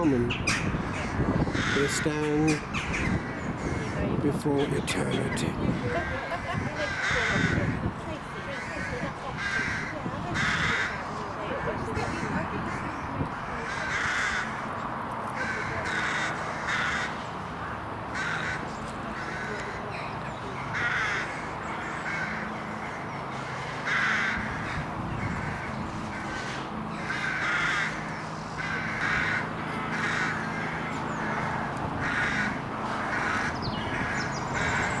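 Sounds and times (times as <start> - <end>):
crows cawing: 0.0 - 4.2, 5.2 - 35.0.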